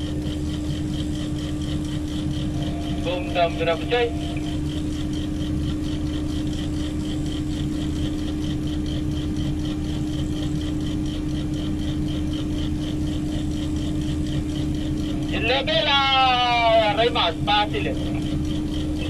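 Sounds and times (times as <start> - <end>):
diesel engine humming: 0.0 - 19.0
high-pitched pulsing: 0.0 - 19.0.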